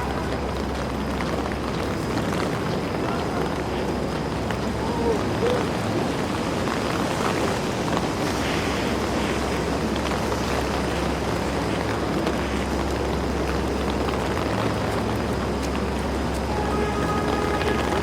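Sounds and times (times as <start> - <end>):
low traffic rumble: 0.0 - 18.0
rain hiss on wet street: 0.0 - 18.0.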